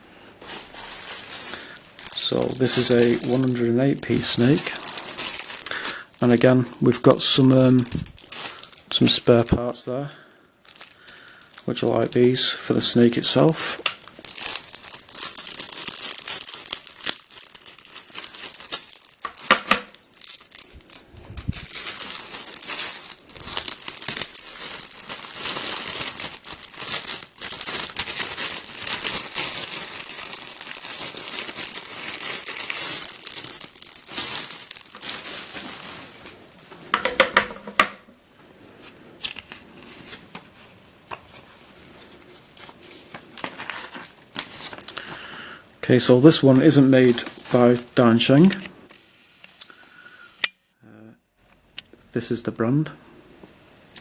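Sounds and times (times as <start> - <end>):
plastic packaging crinkling and tearing: 0.4 - 37.2, 38.6 - 48.7.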